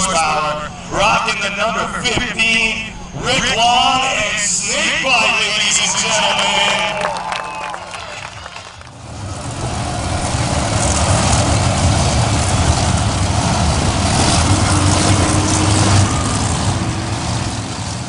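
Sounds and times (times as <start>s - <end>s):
monster truck engine revving: 3.1s - 18.0s.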